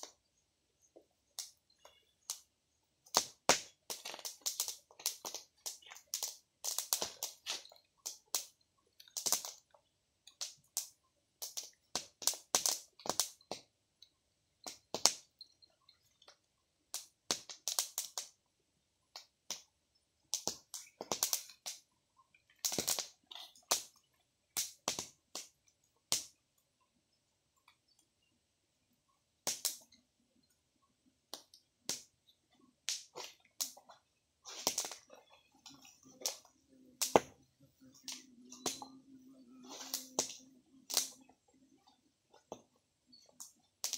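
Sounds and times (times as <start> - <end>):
fire crackling and popping: 0.9 - 26.7, 29.4 - 30.5, 31.2 - 43.9.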